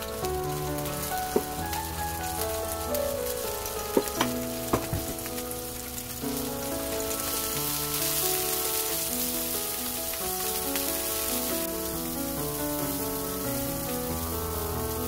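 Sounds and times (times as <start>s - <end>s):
slow background music: 0.0s - 15.0s
vegetables sizzling in frying pan: 0.0s - 15.0s.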